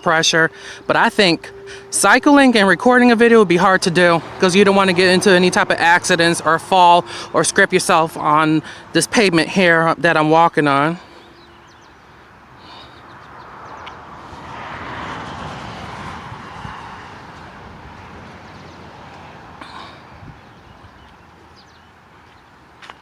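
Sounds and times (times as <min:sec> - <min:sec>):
car passing by: 0:00.0 - 0:09.8, 0:11.0 - 0:21.8.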